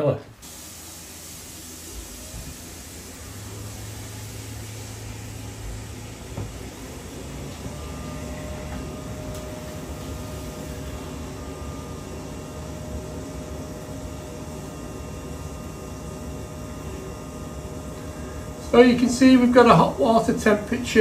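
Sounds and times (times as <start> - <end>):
boiler fan and burner humming: 0.0 - 21.0
faint steady whine: 0.0 - 21.0.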